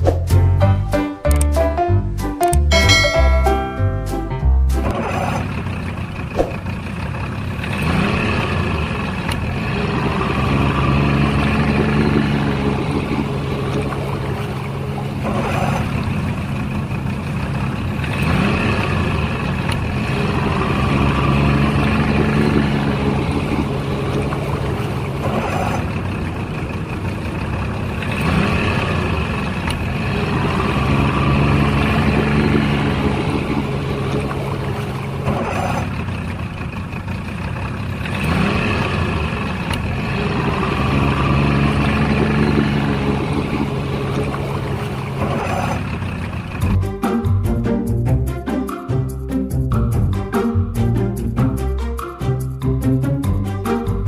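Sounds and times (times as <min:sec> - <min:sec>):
vehicle engine running: 0:02.5 - 0:54.0.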